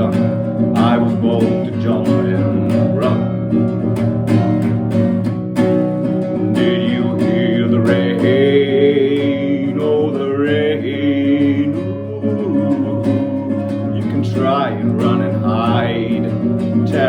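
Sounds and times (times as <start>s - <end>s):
wordless singing: 0.0s - 3.8s, 6.3s - 17.0s
acoustic guitar strumming: 0.0s - 17.0s.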